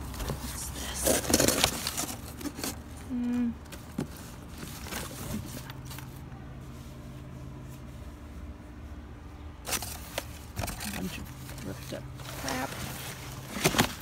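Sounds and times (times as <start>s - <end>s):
cardboard and plastic rustling: 0.0s - 8.3s, 9.6s - 14.0s.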